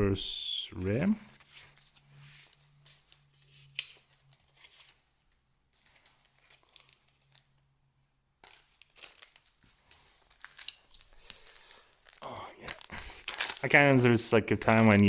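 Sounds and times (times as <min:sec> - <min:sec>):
cards rustling and clicking: 0:00.8 - 0:07.6, 0:08.4 - 0:15.0
foil wrappers crinkling: 0:01.3 - 0:07.6, 0:08.4 - 0:15.0.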